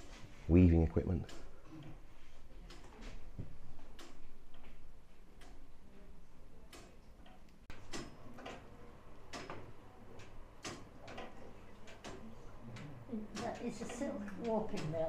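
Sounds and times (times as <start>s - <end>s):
mechanical clocks ticking: 0.5s - 3.0s, 3.6s - 15.0s.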